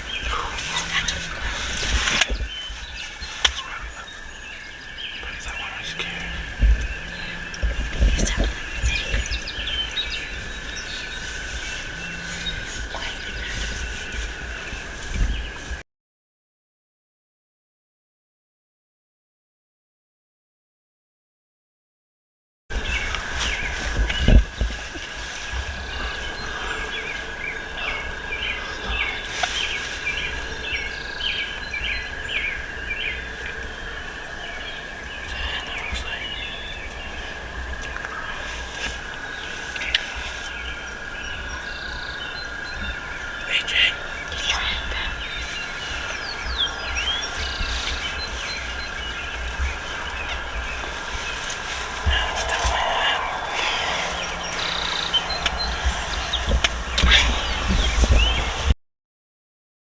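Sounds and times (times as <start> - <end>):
songbirds chirping: 0.0 - 15.8, 22.7 - 58.8.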